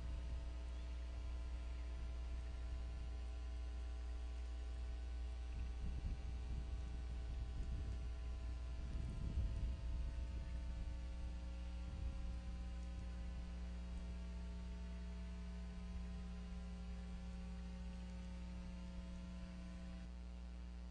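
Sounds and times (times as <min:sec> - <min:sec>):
electrical hum over low rumble: 0:00.0 - 0:20.9.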